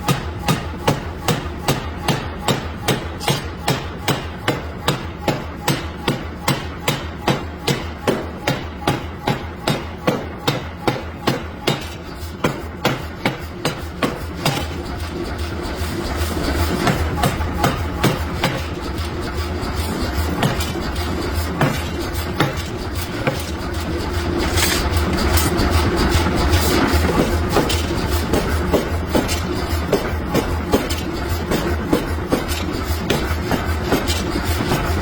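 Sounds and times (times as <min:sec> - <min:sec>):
hammer striking steel: 0:00.0 - 0:15.2, 0:16.8 - 0:35.0.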